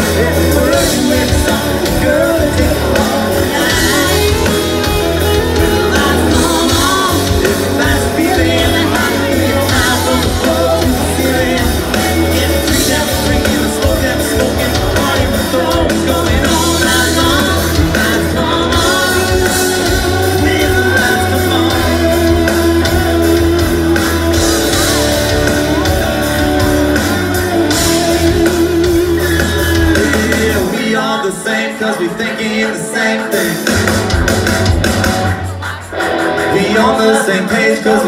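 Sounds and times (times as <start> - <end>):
bass guitar: 0.0 - 31.1, 33.4 - 38.0
person singing: 0.0 - 34.4, 35.4 - 38.0
drums: 0.0 - 38.0
electric guitars: 0.0 - 38.0.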